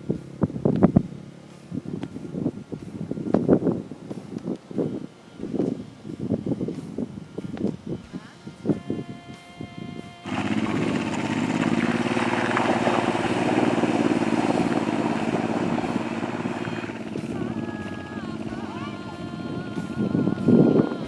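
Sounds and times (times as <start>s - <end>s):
motorcycle engine running: 0.0s - 7.9s, 10.2s - 21.0s
background music: 1.3s - 21.0s.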